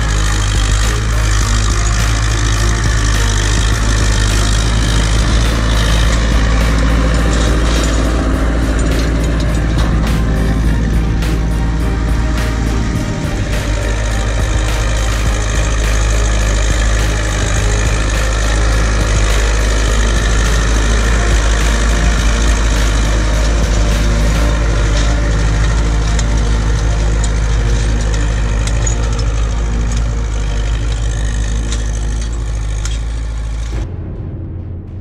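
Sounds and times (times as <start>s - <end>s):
tractor diesel engine rumbling: 0.0s - 33.8s.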